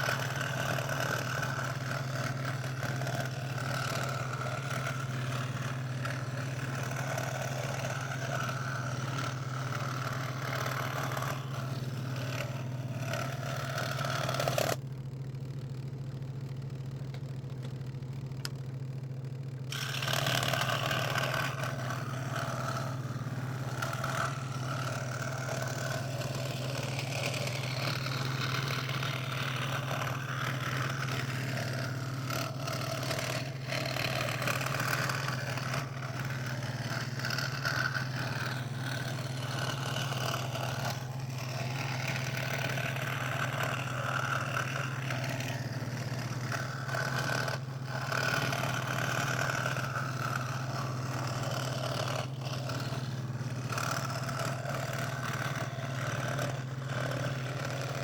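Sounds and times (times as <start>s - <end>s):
saw blade cutting plywood: 0.0s - 14.8s, 19.7s - 58.0s
scroll saw motor hum: 0.0s - 58.0s.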